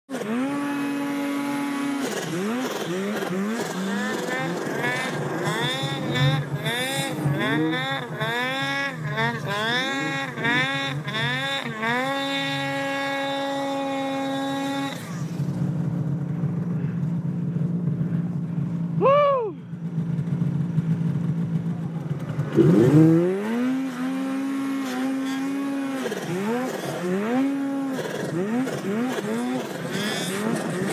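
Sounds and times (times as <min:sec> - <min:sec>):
snowmobile engine revving: 0:00.1 - 0:30.9.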